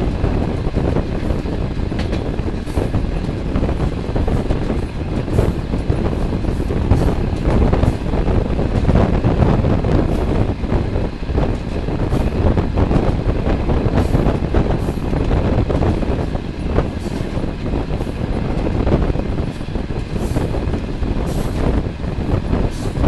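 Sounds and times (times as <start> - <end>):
train wheels rumbling on rails: 0.0 - 23.0
wind rushing at microphone: 0.0 - 23.0.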